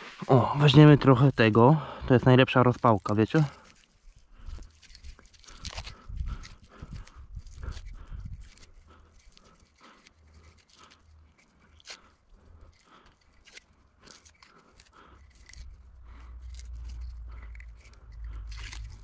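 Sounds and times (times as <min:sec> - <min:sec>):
bark peeling and tearing: 0:02.2 - 0:19.0.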